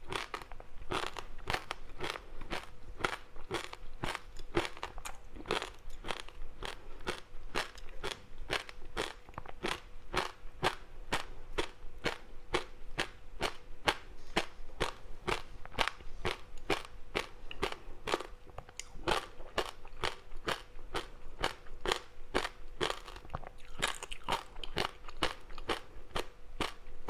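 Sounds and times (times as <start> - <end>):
crispy snack chewing: 0.0 - 26.9.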